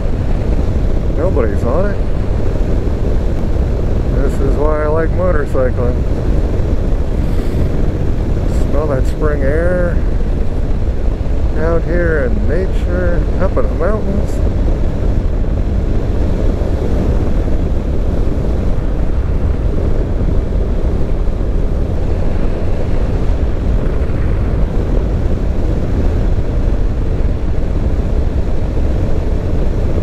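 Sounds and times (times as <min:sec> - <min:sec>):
motorcycle road noise: 0:00.0 - 0:30.0
wind rushing over microphone: 0:00.0 - 0:30.0.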